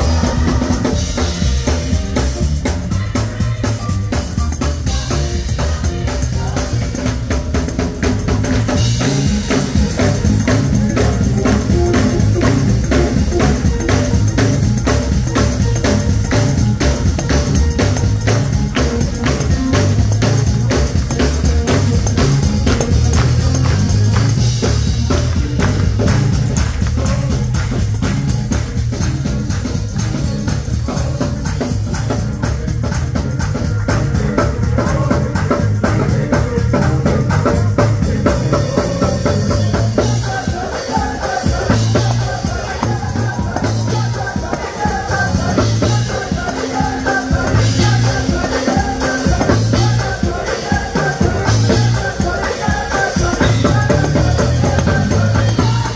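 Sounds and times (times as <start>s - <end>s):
heavy bass line: 0.0s - 40.7s, 41.4s - 52.4s, 53.2s - 55.9s
drum kit beat: 0.0s - 55.9s
tambourine: 0.0s - 55.9s.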